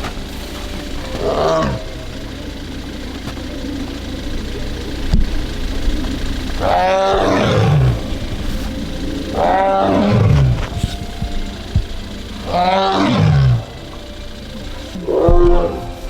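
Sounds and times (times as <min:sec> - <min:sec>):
tiger calling: 0:00.0 - 0:16.0.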